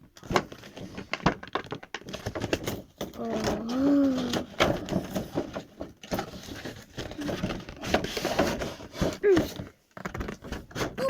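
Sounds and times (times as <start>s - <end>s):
packaging knocks and rustles: 0.0s - 11.0s.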